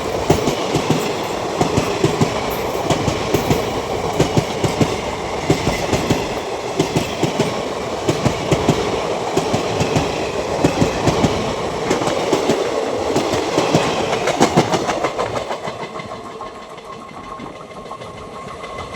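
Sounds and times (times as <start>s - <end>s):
train rumble: 0.0s - 18.9s
train wheels clacking: 0.0s - 18.9s.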